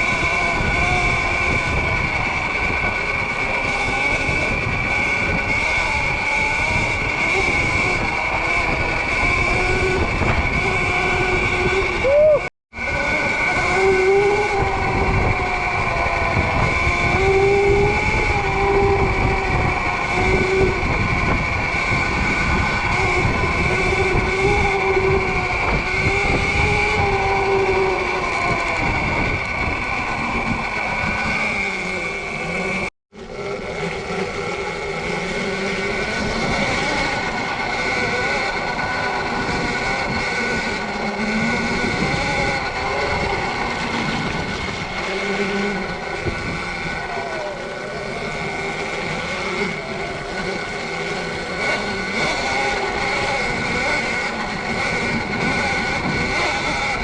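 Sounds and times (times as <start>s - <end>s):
electric motor whining: 0.0s - 57.0s
wind and riding rumble: 0.0s - 57.0s.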